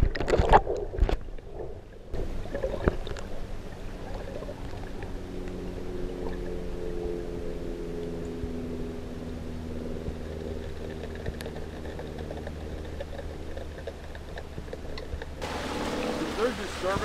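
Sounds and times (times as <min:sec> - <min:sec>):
underwater low hum: 0:00.0 - 0:17.0.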